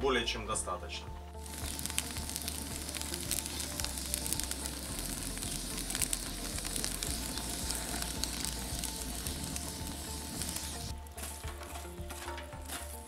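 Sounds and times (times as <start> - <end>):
wood fire crackling and popping: 1.4 - 13.0.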